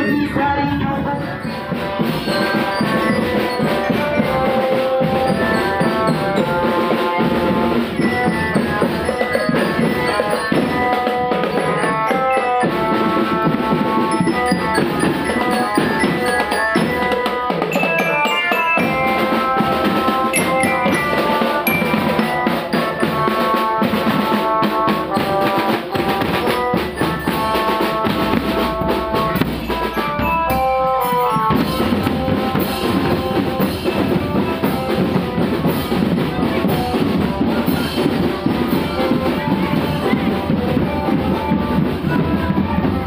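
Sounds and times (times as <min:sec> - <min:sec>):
glockenspiel melody: 0:00.0 - 0:43.0
marching drums: 0:00.0 - 0:43.0.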